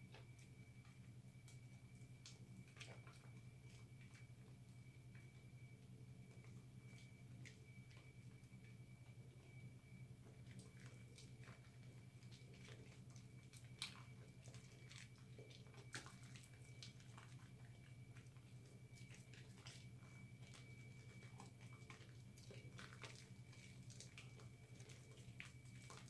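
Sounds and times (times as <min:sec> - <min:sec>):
steady low hum: 0:00.0 - 0:26.0
soapy hands squishing: 0:00.2 - 0:26.0.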